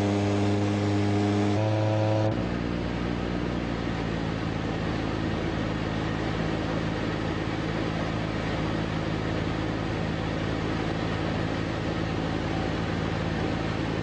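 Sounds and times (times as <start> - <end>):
microlight engine and propeller: 0.0 - 14.0.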